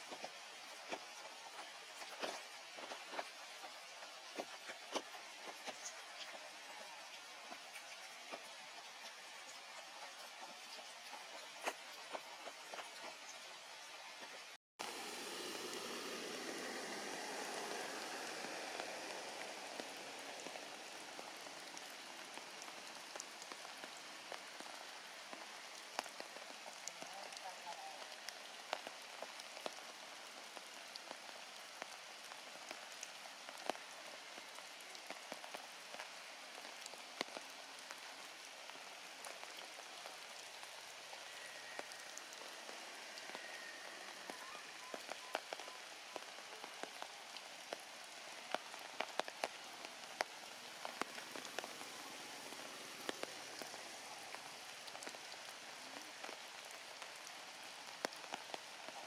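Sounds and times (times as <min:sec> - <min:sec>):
rain hissing: 0:00.0 - 0:59.0
raindrops ticking: 0:00.0 - 0:59.0.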